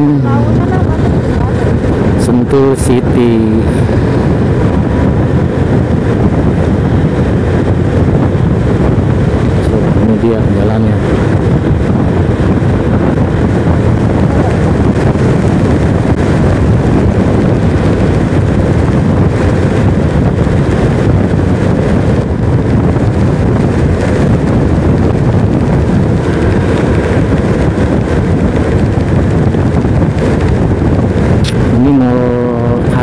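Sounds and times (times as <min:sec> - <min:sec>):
motorcycle engine: 0:00.0 - 0:33.0
road noise: 0:00.0 - 0:33.0
wind rush on microphone: 0:00.0 - 0:33.0.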